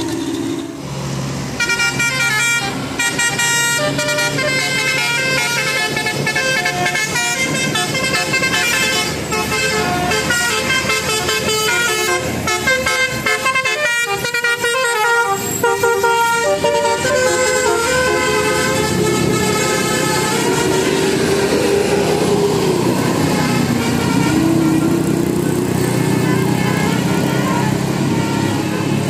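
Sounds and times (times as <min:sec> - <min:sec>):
multi-tone air horn melody: 0:01.6 - 0:22.0, 0:22.8 - 0:29.0.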